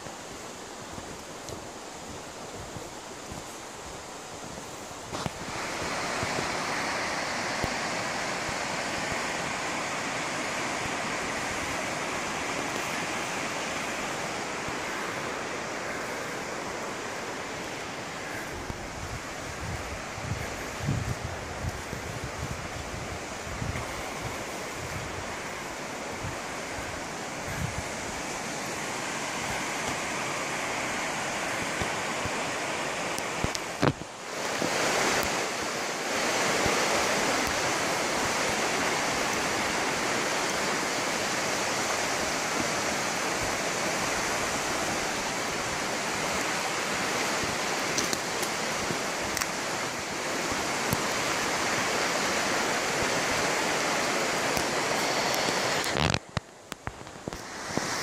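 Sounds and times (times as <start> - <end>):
fast-flowing water rushing: 0.0 - 58.0.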